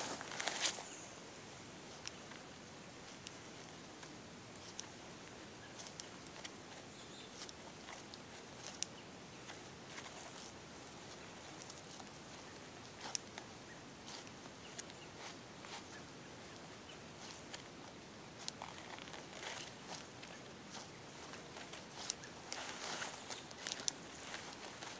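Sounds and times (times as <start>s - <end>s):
faint rustling and clicks: 0.0s - 24.9s
steady hiss: 0.0s - 24.9s.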